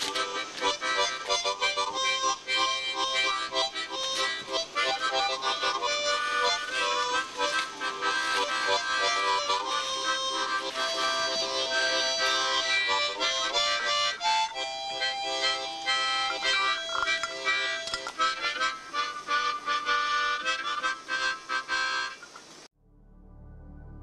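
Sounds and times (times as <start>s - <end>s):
harmonica music: 0.0s - 22.4s.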